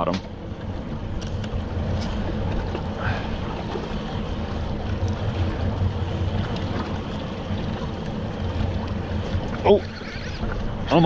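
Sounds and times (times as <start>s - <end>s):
outboard engine idling: 0.0s - 11.0s
water noise: 0.0s - 11.0s
wind: 0.0s - 11.0s.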